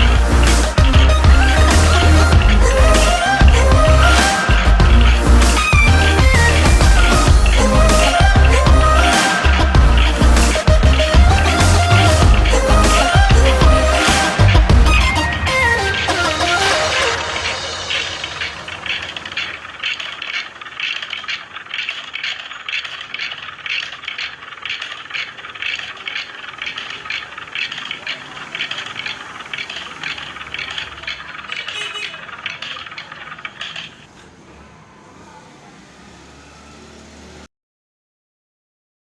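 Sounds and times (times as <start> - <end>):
steady hum: 0.0 - 34.1
rapid irregular rattling: 0.0 - 37.5.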